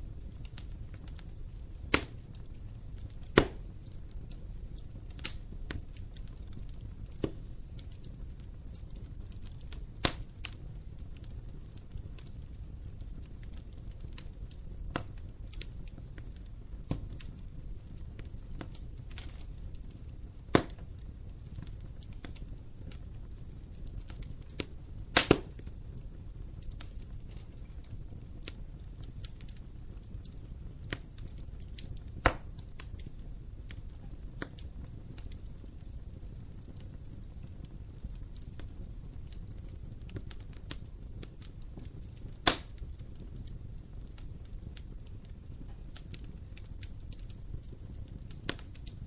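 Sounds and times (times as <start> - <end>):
fire crackling and popping: 0.0 - 49.0
fire rumbling: 0.0 - 49.0.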